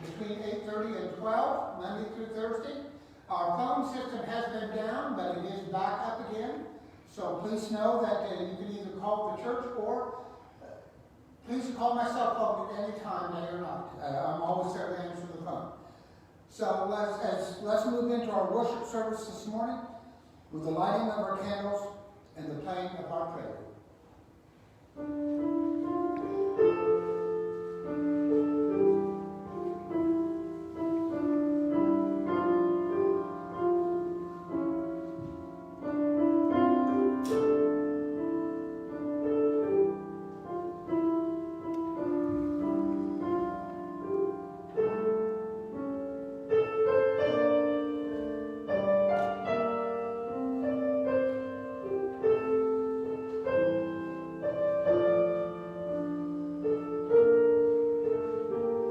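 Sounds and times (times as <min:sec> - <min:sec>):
slow quiet piano music: 0:00.0 - 0:15.8, 0:24.6 - 0:58.9.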